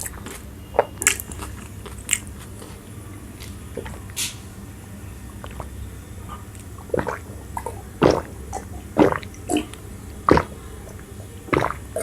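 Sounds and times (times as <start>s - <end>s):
mouth smacks: 0.0s - 4.4s, 5.3s - 12.0s
wet chewing sounds: 0.0s - 12.0s.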